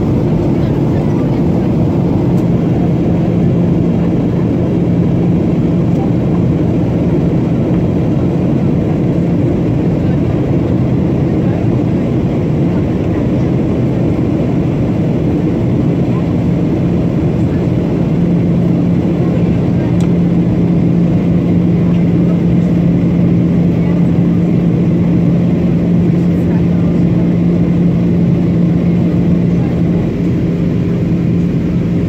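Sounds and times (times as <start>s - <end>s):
constant cabin hum: 0.0s - 32.0s
jet engines rumbling: 0.0s - 32.0s.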